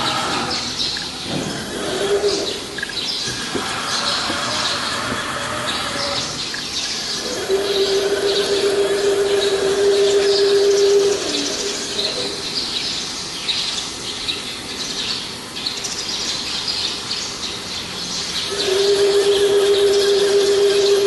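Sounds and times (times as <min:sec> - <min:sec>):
steady machine hum: 0:00.0 - 0:15.6, 0:17.0 - 0:21.0
birds chirping: 0:00.0 - 0:21.0.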